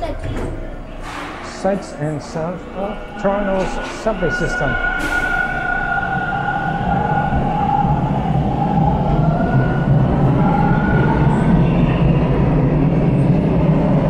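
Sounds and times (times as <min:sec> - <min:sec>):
subway train two-note whine: 0:00.0 - 0:14.0
train low rumble: 0:00.0 - 0:14.0.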